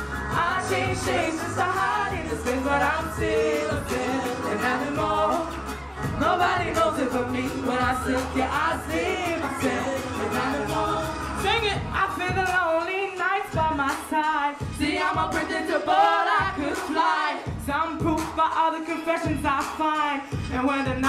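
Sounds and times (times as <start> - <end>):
music with low bass: 0.0 - 15.8, 17.5 - 21.0
people singing into microphones: 0.0 - 21.0.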